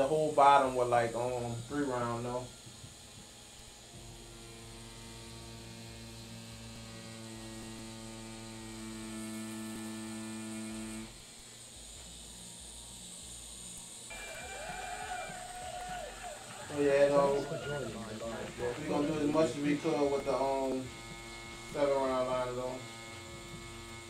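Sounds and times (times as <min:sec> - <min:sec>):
tattoo machine buzzing: 0:00.0 - 0:24.0.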